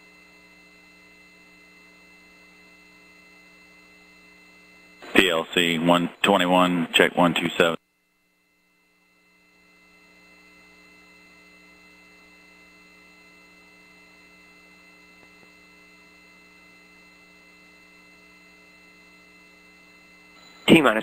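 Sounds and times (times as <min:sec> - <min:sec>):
faint electrical hum with hiss: 0:00.0 - 0:21.0.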